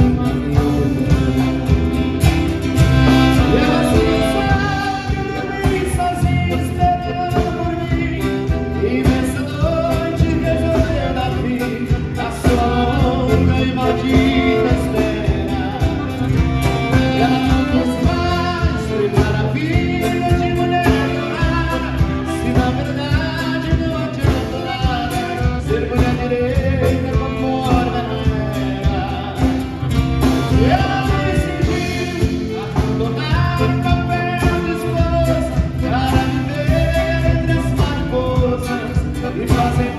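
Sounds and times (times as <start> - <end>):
song with singing and bass: 0.0 - 39.9.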